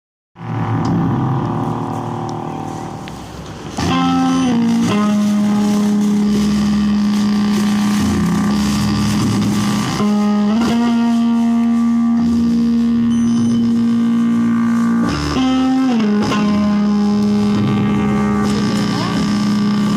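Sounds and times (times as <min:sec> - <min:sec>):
guitar playing sliding held notes: 0:00.4 - 0:19.9.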